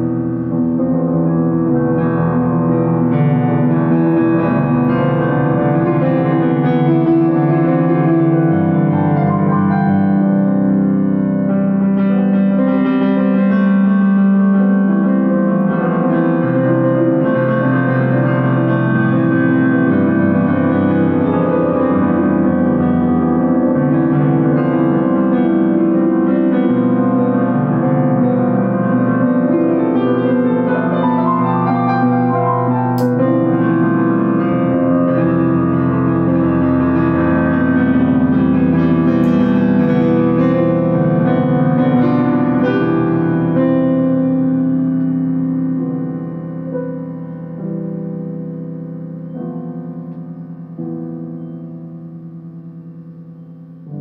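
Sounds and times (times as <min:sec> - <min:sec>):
piano held chords: 0:00.0 - 0:54.0.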